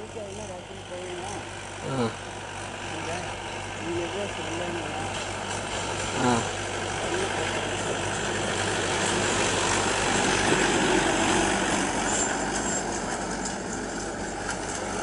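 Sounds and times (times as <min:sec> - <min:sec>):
traffic engine rumble: 0:00.0 - 0:15.0.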